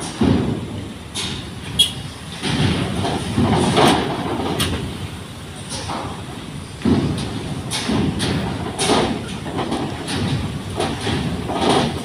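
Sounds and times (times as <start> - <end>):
low traffic rumble: 0.0 - 12.0
wheels thumping over steel ramp: 0.0 - 12.0.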